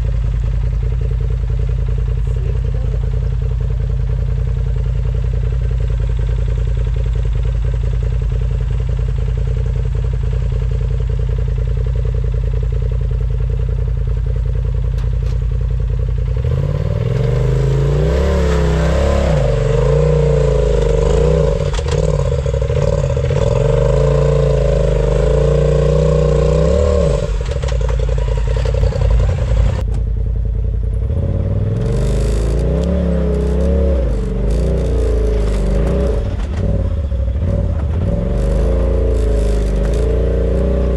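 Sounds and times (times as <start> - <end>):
vehicle engine idling and revving: 0.0 - 40.9.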